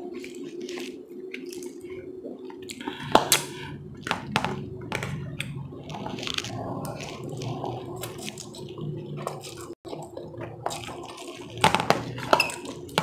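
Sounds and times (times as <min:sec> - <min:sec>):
slurping and chewing noodles: 0:00.0 - 0:04.4, 0:05.1 - 0:13.0
low hum: 0:00.0 - 0:13.0.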